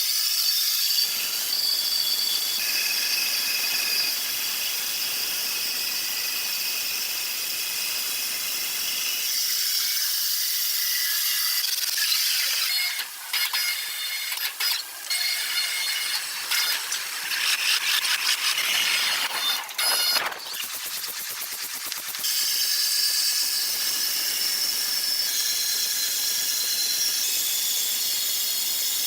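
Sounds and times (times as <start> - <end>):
sawmill saw squealing: 0.2 - 20.7, 22.2 - 29.0.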